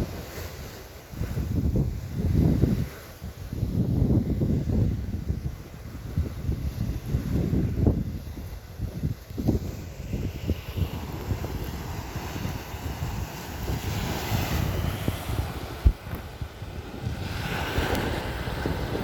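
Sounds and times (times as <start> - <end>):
sea waves washing onto beach: 0.0 - 19.0
wind buffeting microphone: 0.0 - 19.0.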